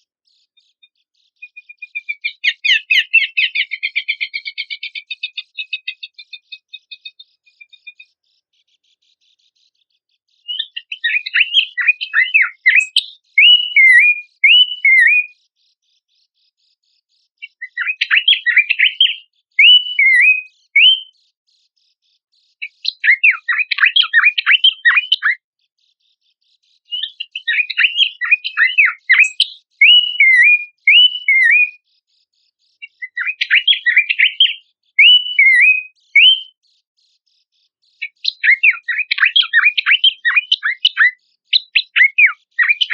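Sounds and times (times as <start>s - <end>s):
bird chattering and whistling: 0.0s - 9.5s, 10.4s - 15.5s, 17.3s - 21.3s, 22.6s - 25.4s, 26.8s - 36.6s, 37.9s - 42.9s.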